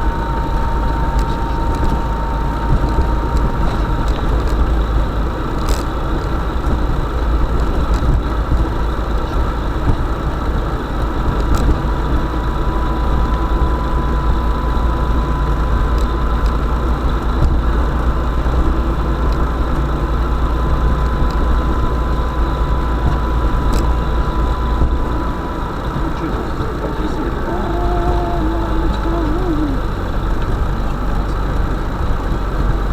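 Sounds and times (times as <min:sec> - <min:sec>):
engine running with low rumble: 0:00.0 - 0:32.9
high whine: 0:00.0 - 0:32.9.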